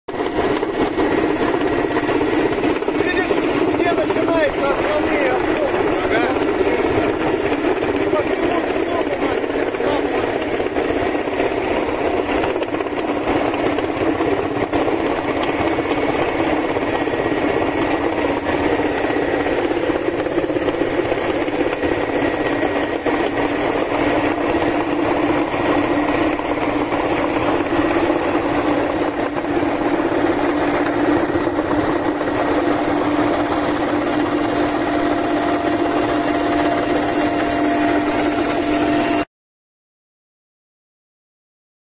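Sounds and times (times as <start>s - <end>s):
helicopter turbine and rotor drone: 0.1s - 39.3s.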